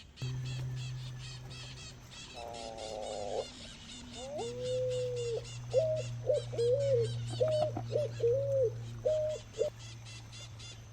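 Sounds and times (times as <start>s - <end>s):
high-pitched chirping: 0.0s - 10.9s
low whistled bird calls: 0.0s - 10.9s.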